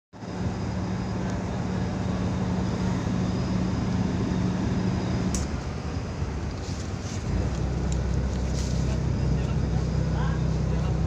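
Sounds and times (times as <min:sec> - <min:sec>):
steady hum: 0:00.2 - 0:11.0
tugboat engine drone: 0:00.2 - 0:11.0.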